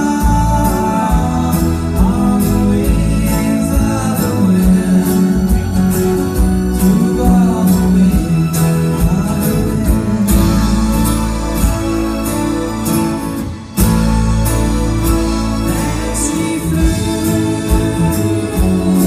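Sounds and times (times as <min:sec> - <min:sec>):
person singing: 0:00.0 - 0:13.3, 0:15.0 - 0:19.0
live pop-rock band: 0:00.0 - 0:19.0.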